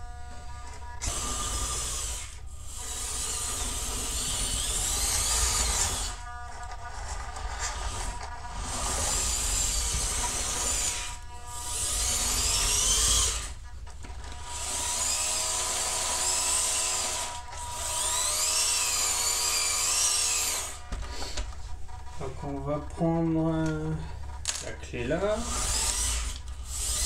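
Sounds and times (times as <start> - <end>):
small electric motors whining: 0.0 - 27.0.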